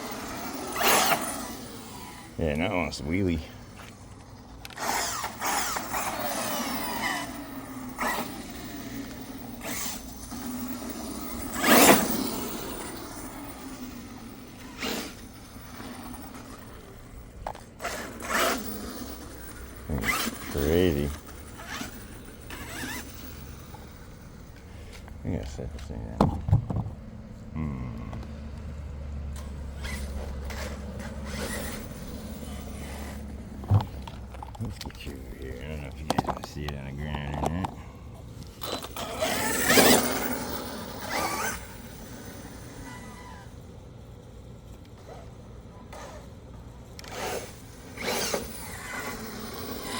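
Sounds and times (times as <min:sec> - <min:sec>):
rc car electric motor revving: 0:00.0 - 0:26.9, 0:27.5 - 0:49.9
gear and drivetrain clatter: 0:00.0 - 0:49.9.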